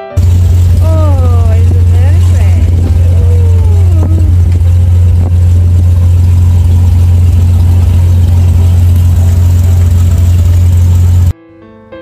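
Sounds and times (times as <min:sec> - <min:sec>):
plane engine drone in cabin: 0:00.0 - 0:11.3.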